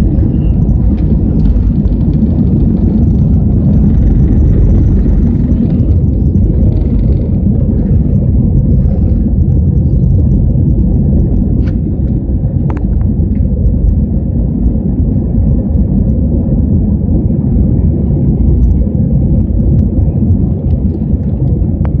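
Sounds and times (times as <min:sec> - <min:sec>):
airliner engine rumble in cabin: 0:00.0 - 0:22.0.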